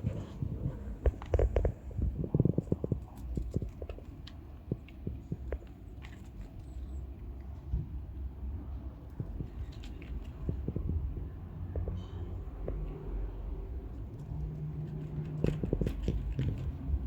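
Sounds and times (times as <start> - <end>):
cats chewing food: 0.0 - 17.0.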